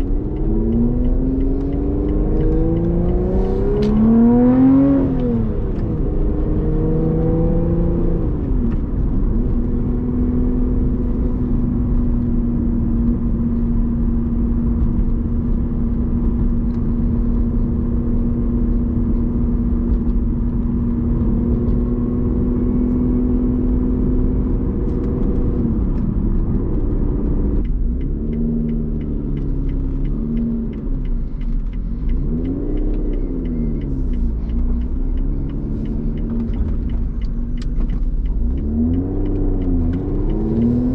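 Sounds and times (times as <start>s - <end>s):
car engine revving: 0.0s - 40.9s
gear change: 0.0s - 40.9s.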